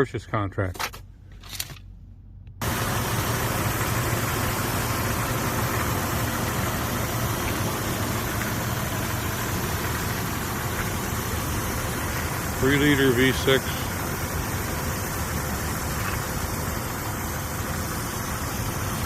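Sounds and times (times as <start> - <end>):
car engine idling: 1.0 - 19.0.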